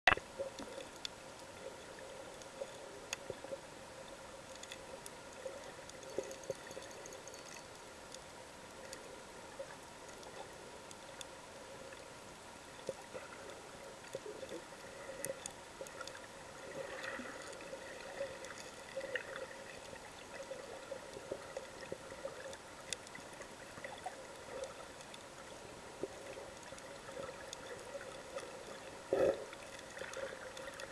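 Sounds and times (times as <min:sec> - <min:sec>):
faint clicks and crackles: 0:00.1 - 0:30.9
underwater muffled hiss: 0:00.4 - 0:30.9.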